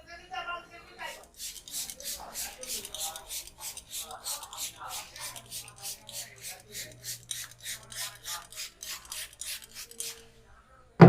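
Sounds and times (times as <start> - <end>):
hands rubbing through hair: 1.0 - 10.3.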